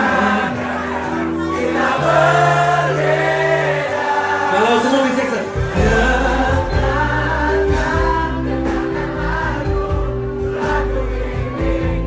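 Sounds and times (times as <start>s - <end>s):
voices singing: 0.0s - 12.0s.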